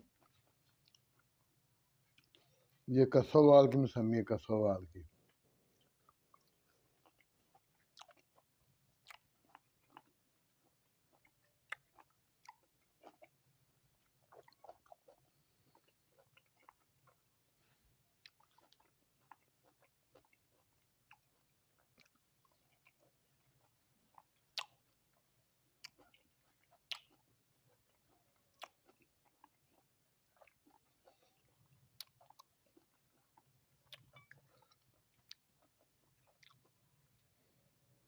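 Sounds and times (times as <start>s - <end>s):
close-up wet chewing: 0.0s - 2.9s, 5.0s - 37.7s.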